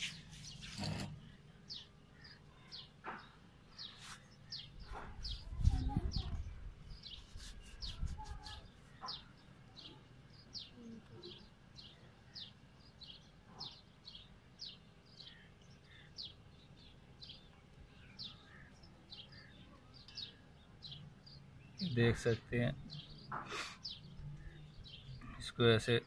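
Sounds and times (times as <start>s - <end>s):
small bird chirping: 0.0s - 25.5s.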